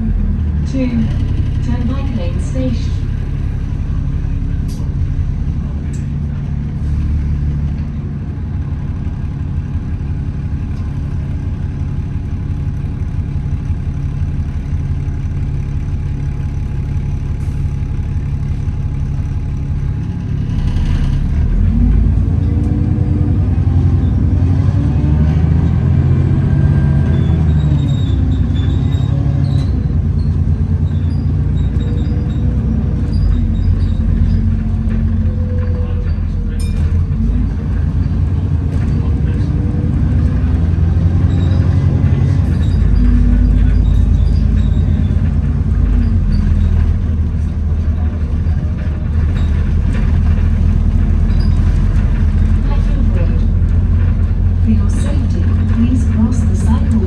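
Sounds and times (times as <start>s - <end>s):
bus engine running: 0.0s - 57.0s
drivetrain whine: 0.0s - 57.0s
loud axles: 0.0s - 57.0s.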